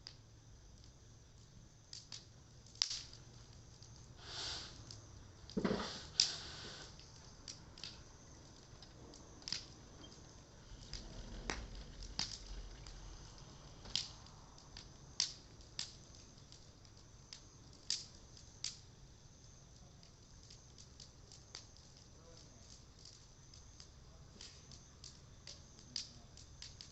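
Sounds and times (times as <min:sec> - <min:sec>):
bonfire crackling and popping: 0:00.0 - 0:26.9.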